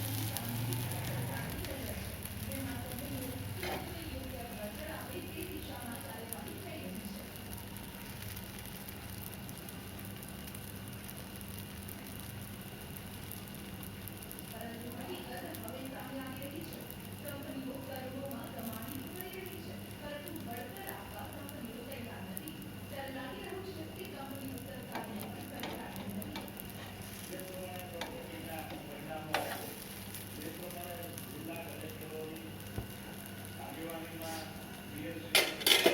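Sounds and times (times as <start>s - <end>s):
batter sizzling in oil: 0.0s - 35.9s.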